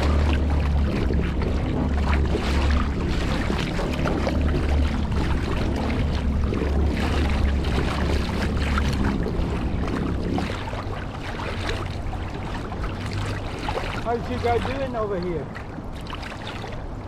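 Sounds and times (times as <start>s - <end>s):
boat motor drone: 0.0s - 17.0s
wind and water noise: 0.0s - 17.0s.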